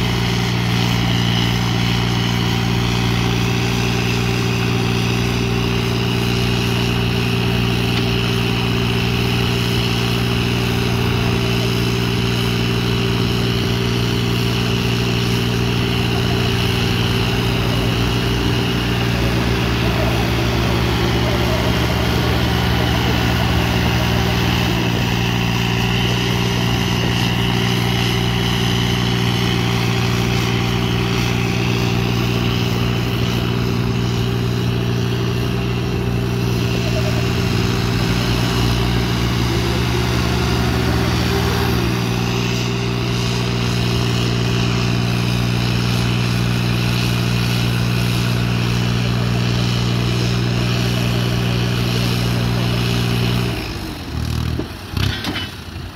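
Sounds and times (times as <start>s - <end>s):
diesel tractor engines under load: 0.0s - 55.9s.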